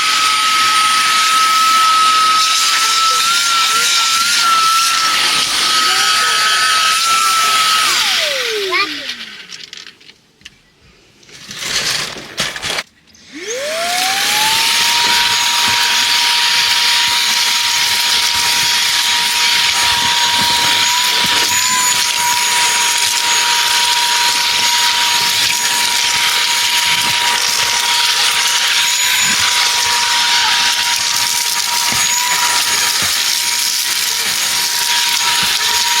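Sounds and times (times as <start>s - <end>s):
vacuum cleaner motor whining: 0.0s - 9.7s, 12.6s - 36.0s.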